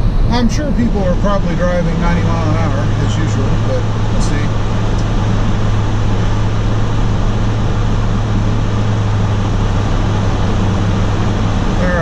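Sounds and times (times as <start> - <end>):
constant low hum: 0.0 - 12.0
tyre and road noise: 0.0 - 12.0.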